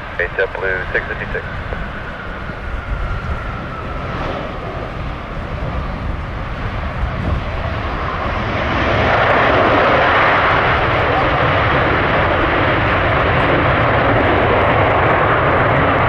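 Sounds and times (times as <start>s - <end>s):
jet airliner engines whining: 0.0s - 16.0s
wind rumble on microphone: 0.0s - 16.0s.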